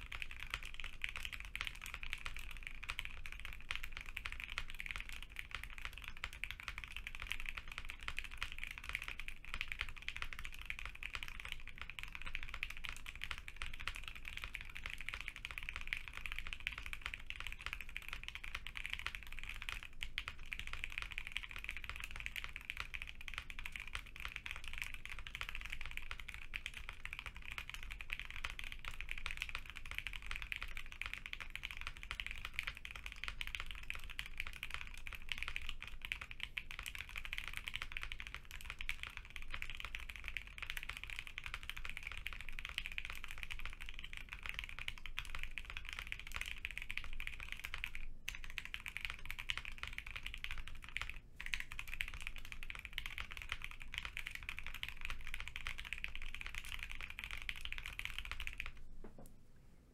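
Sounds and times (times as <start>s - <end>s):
rapid mechanical keyboard typing: 0.0s - 58.8s.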